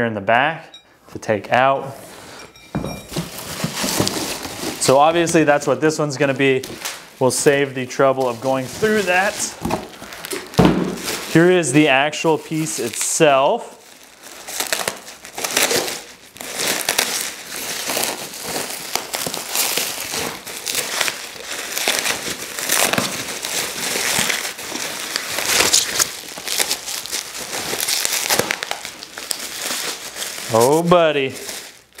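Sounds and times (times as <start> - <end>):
packaging rustling and crackling: 3.1 - 32.0.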